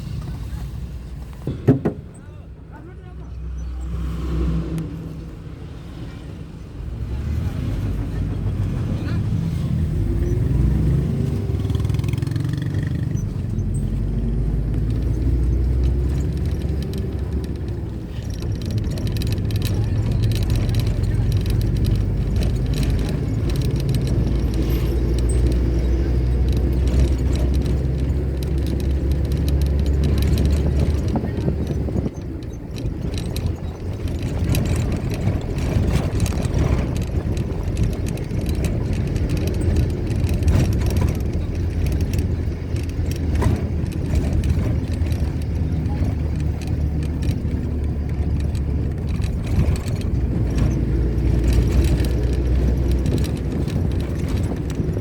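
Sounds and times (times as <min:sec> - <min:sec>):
vehicle engine and tyres rumble: 0:00.0 - 0:55.0
small rattles: 0:10.1 - 0:55.0.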